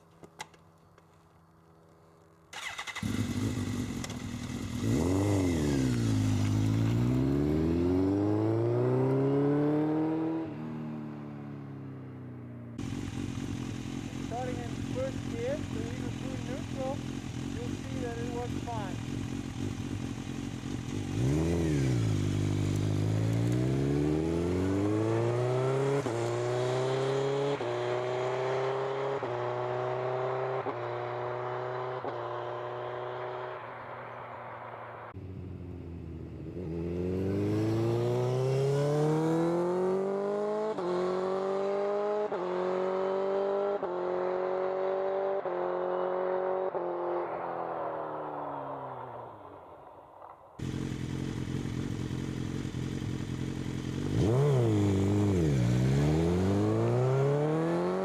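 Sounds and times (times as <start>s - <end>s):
motorcycle engine accelerating: 2.5s - 58.0s.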